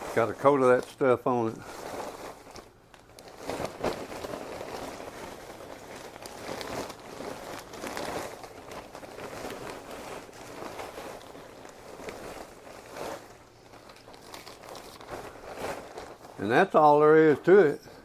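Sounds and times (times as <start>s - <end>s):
crackers rattling in a container: 0.0s - 18.0s.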